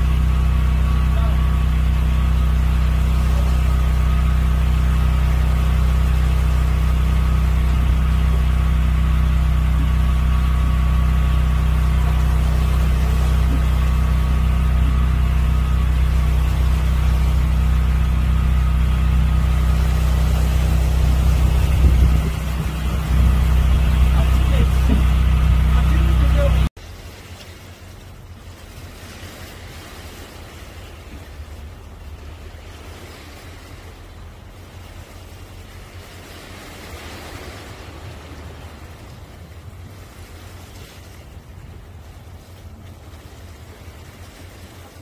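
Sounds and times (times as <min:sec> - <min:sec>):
engine idling drone: 0:00.0 - 0:45.0.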